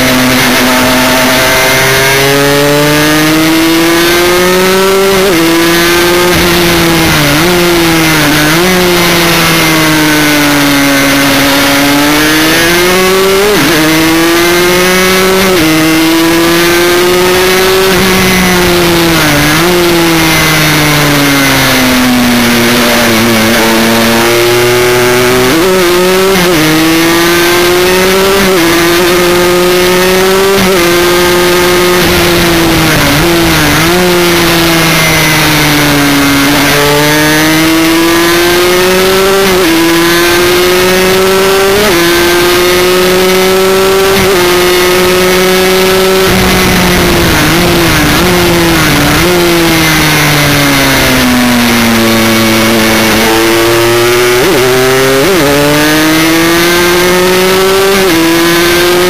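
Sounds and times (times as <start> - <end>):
motorcycle engine at racing speed: 0.0 - 59.0.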